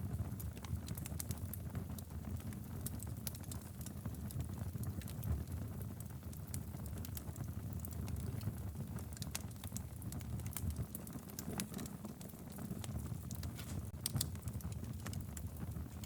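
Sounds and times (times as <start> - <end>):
fire rumbling: 0.0 - 16.0
wood crackling and popping: 0.0 - 16.0.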